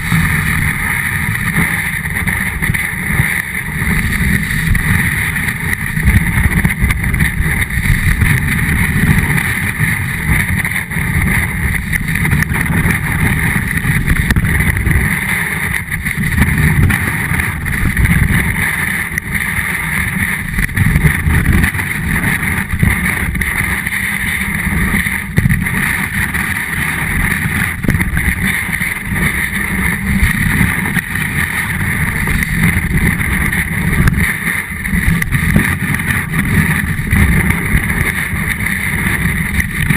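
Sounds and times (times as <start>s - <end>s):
snowboard sliding over snow: 0.0s - 39.9s
wind buffeting camera: 0.0s - 39.9s.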